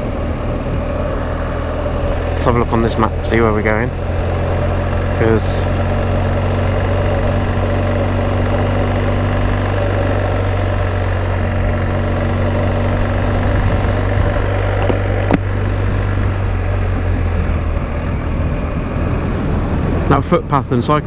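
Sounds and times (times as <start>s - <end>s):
motorcycle engine idling: 0.0s - 20.1s.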